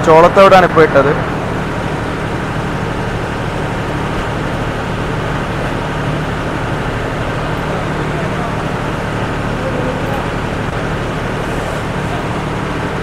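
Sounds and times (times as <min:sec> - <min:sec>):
feed mixer humming: 0:00.0 - 0:13.0.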